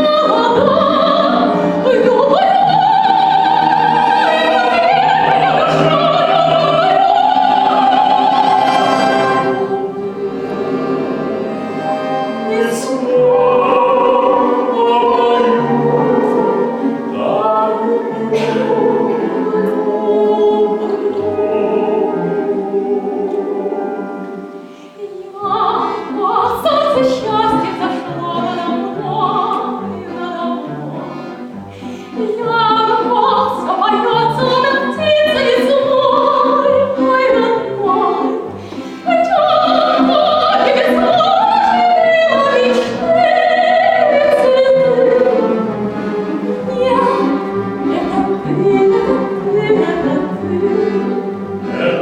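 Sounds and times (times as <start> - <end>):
classical voices singing duet: 0.0 - 52.0
orchestra playing: 0.0 - 52.0.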